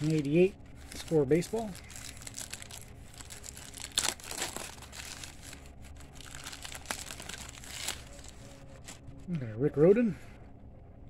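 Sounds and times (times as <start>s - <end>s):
plastic wrapper tearing and crinkling: 0.0s - 9.0s.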